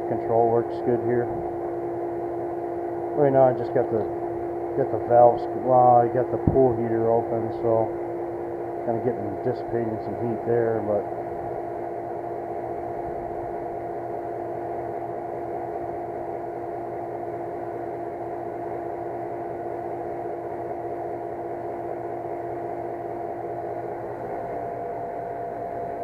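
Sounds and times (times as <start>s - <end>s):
gas heater blower humming: 0.0s - 26.0s
pool pump humming: 0.0s - 26.0s.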